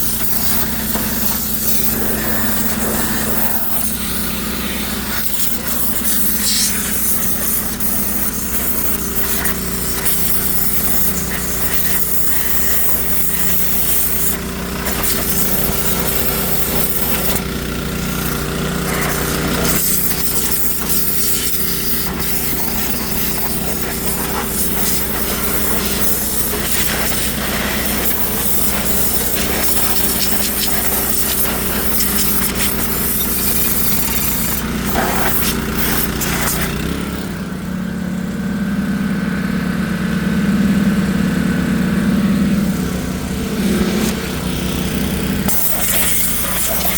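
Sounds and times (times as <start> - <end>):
high-pressure water jet hissing: 0.0 - 37.6, 41.4 - 46.9
pressure washer motor humming: 0.0 - 46.9.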